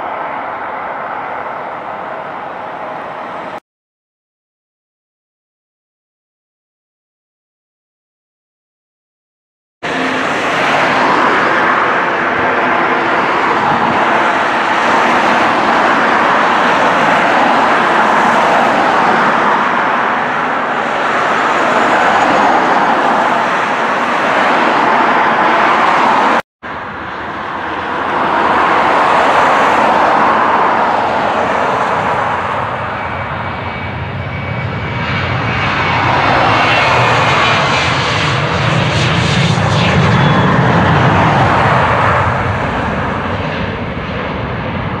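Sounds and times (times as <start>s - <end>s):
jet engine low rumble: 0.0s - 3.6s, 9.8s - 45.0s
jet engines running loud: 0.0s - 3.6s, 9.8s - 45.0s.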